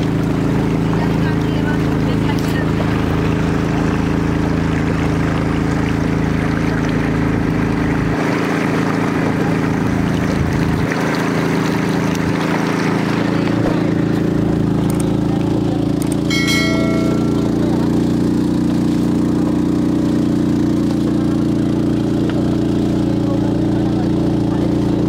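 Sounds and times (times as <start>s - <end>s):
boat engine running: 0.0s - 25.0s
water rushing along hull: 0.0s - 25.0s.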